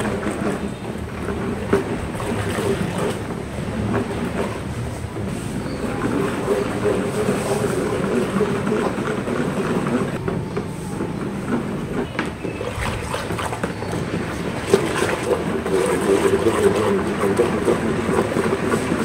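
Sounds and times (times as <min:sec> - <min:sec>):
foamy liquid sloshing: 0:00.0 - 0:19.0.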